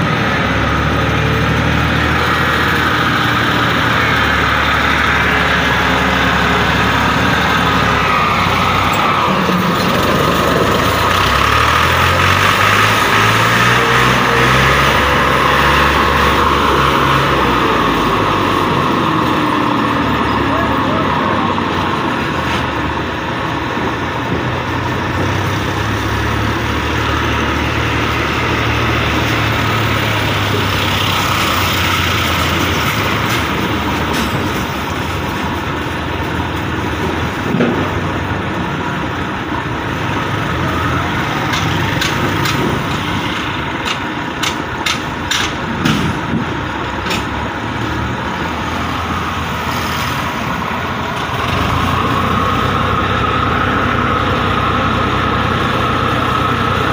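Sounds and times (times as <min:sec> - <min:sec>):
tractor engine idling: 0:00.0 - 0:56.9.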